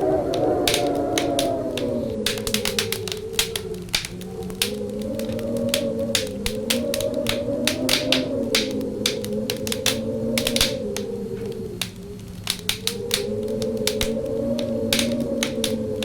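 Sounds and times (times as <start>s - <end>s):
wind howling: 0.0s - 16.0s
wood fire crackling and popping: 0.0s - 16.0s.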